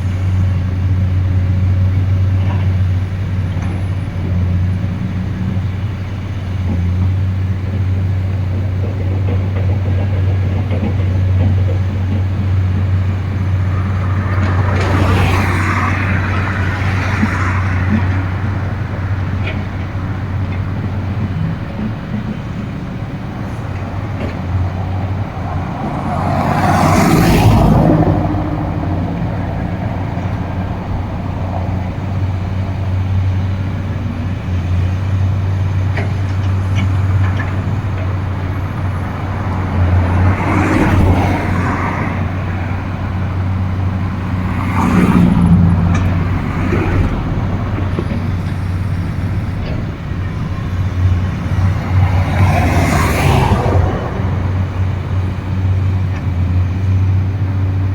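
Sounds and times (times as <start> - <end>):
excavator diesel engines: 0.0 - 57.9.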